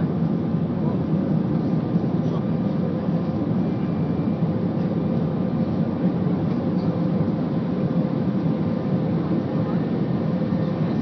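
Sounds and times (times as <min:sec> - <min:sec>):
jet engines and airflow rumble: 0:00.0 - 0:11.0.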